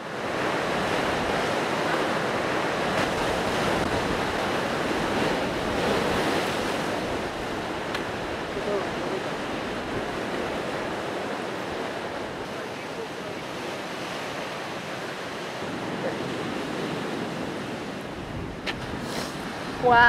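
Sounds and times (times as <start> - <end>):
surf breaking on rocks: 0.0 - 20.0.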